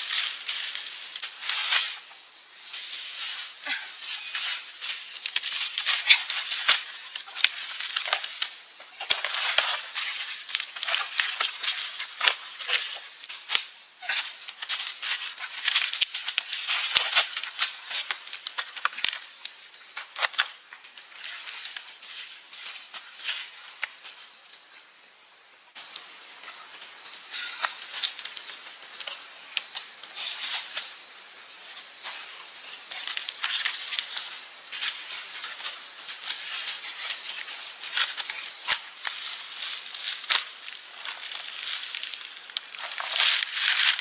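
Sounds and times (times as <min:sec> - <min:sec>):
dry branches crackling and snapping: 0:00.0 - 0:02.1, 0:02.7 - 0:24.2, 0:27.4 - 0:30.9, 0:32.0 - 0:44.0.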